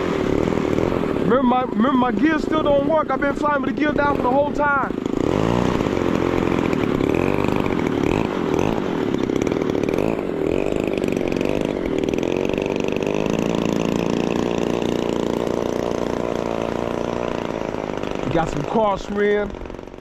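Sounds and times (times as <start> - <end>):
model plane engine flying: 0.0 - 20.0.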